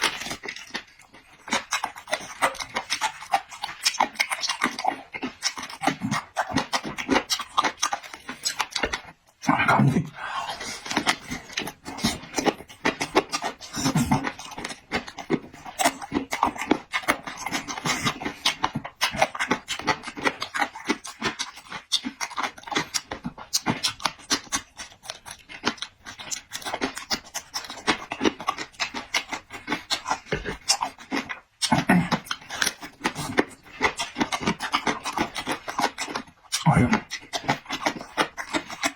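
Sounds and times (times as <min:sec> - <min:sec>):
person chewing and smacking: 0:00.0 - 0:38.9
slurping: 0:00.0 - 0:38.9.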